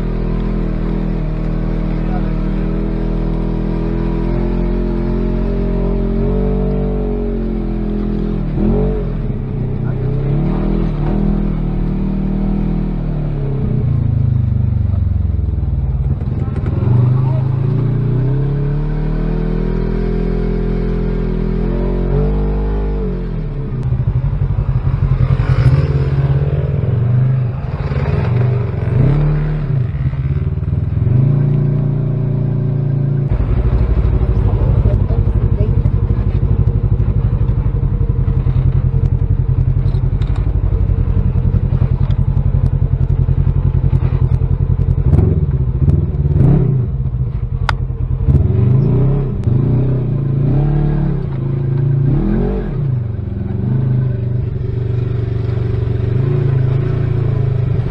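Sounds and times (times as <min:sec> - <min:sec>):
utv engine running: 0:00.0 - 0:57.9.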